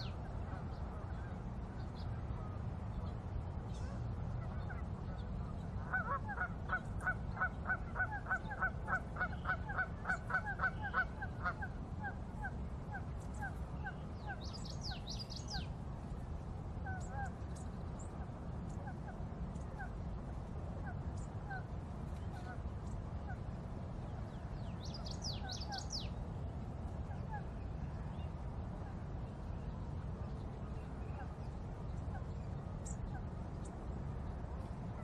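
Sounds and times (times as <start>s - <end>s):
low background noise: 0.0s - 35.0s.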